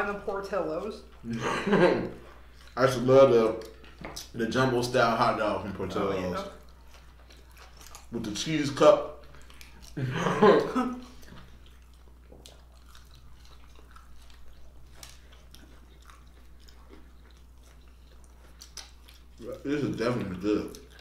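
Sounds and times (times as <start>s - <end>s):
people chewing food: 0.0s - 21.0s.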